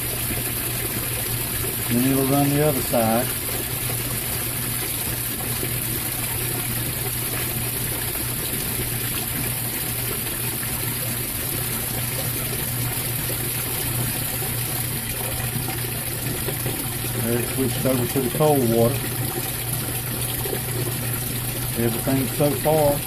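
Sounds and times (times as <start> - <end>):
water rushing into tub: 0.0 - 23.0.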